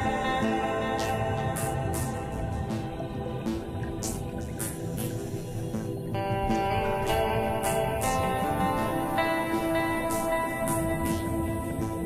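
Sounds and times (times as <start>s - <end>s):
sustained layered music tones: 0.0s - 12.0s.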